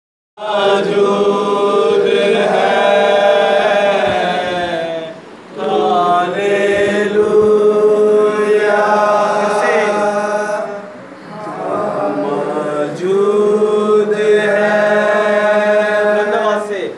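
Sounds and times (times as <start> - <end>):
men singing a worship song: 0.4 - 16.9.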